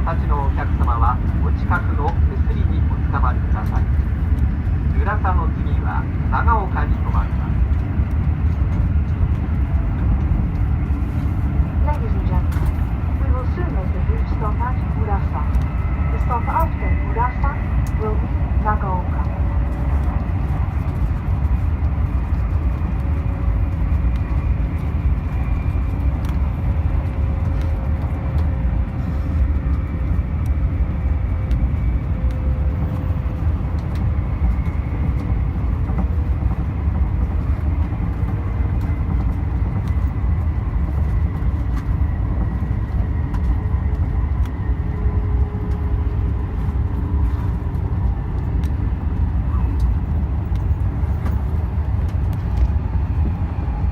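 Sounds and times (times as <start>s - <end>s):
train low rumble: 0.0s - 53.9s.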